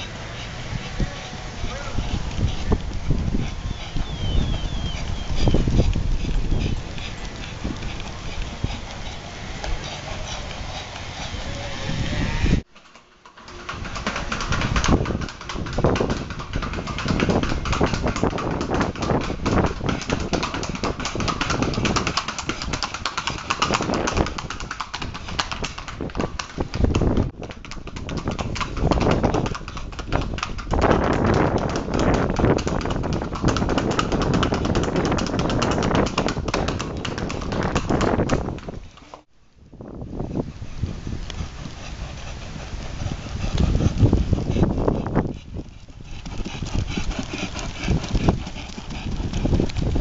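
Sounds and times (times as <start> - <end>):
horse hooves clattering on concrete: 0.0 - 39.3, 40.2 - 50.0.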